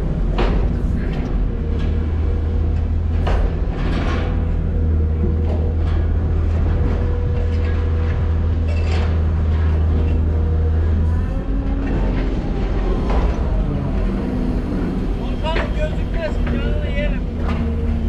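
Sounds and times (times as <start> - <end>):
diesel machinery running: 0.0 - 18.0.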